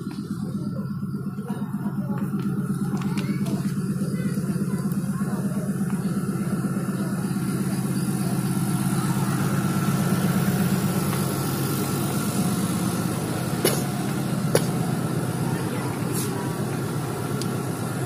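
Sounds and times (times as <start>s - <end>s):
ship engines droning: 0.0s - 18.0s.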